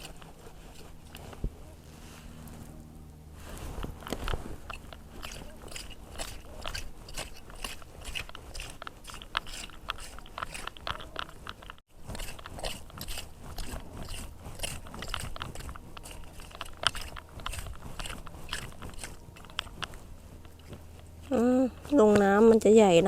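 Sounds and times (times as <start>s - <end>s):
shells and grit crunching: 0.0s - 1.5s, 3.4s - 23.0s
clam scraping through sand: 0.0s - 2.6s, 3.4s - 20.9s.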